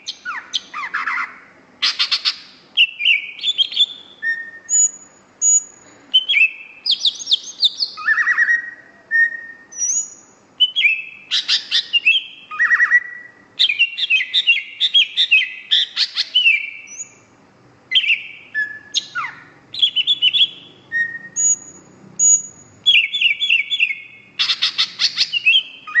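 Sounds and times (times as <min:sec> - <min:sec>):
bird singing varied song: 0:00.0 - 0:26.0.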